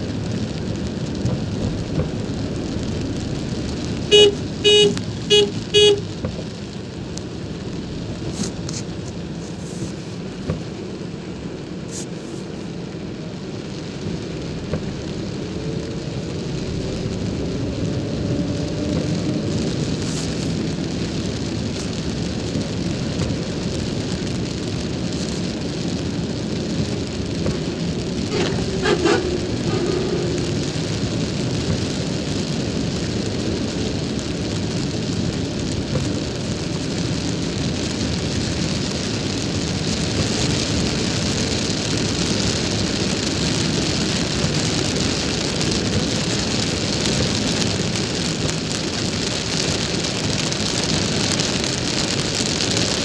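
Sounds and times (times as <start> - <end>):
rain hissing on a car: 0.0 - 53.0
road and tyre rumble: 0.0 - 53.0.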